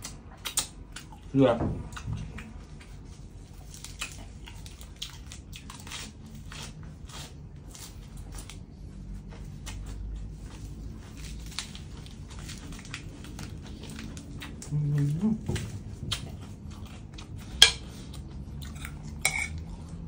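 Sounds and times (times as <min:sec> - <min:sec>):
person chewing crisp lettuce: 0:00.0 - 0:20.0.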